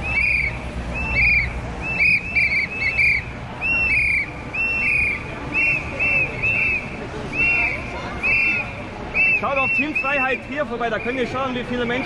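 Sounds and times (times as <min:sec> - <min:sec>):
whistles blown in short blasts: 0:00.0 - 0:10.2
low crowd rumble: 0:00.0 - 0:12.0.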